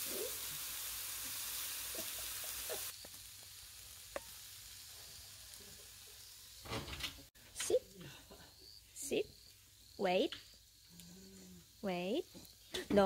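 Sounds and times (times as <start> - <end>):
pork sizzling on a grill: 0.0 - 7.9, 8.5 - 12.7.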